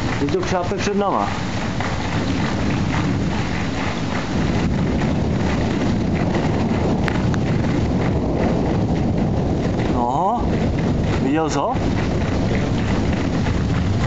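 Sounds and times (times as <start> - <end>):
rain: 0.0 - 14.0
wind buffeting microphone: 0.0 - 14.0.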